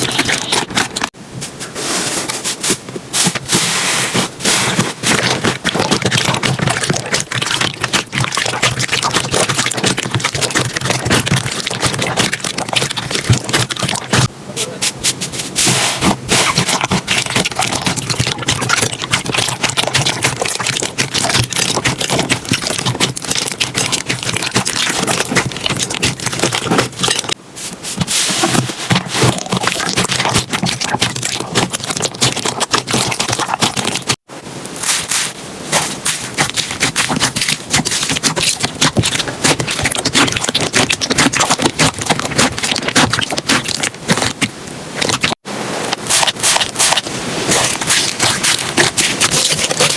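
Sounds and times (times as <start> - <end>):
slime crackling and popping: 4.8 - 14.3, 16.0 - 27.4, 28.4 - 34.2, 34.8 - 45.4, 46.0 - 49.9.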